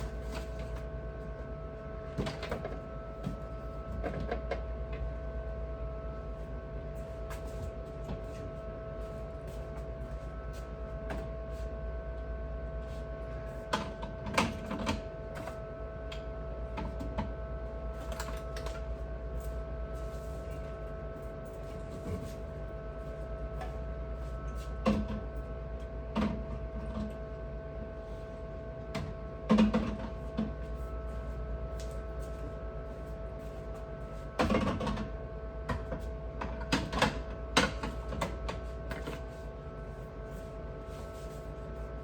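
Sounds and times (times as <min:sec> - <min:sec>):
steady hum with tones: 0:00.0 - 0:42.0.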